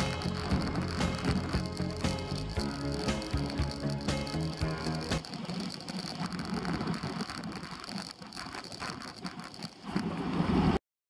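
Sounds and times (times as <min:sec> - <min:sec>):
bike tyres and rattling: 0:00.0 - 0:10.4.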